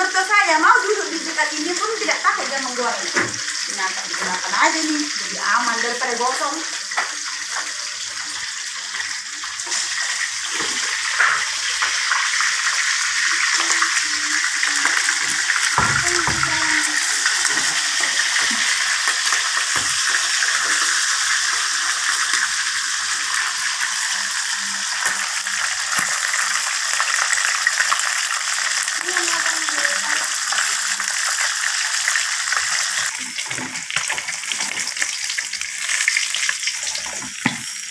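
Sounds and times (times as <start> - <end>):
fish sizzling in hot oil: 0.0 - 37.9.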